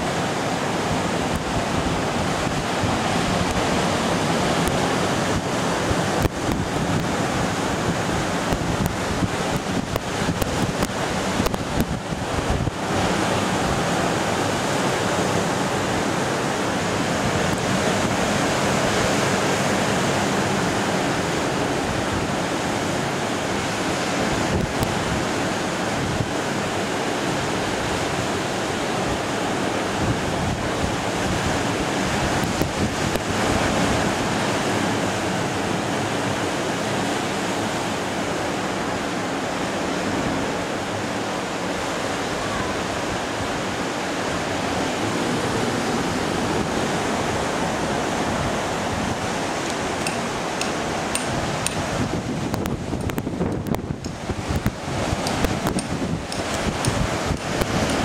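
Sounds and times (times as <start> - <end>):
surf breaking on shore: 0.0 - 58.0.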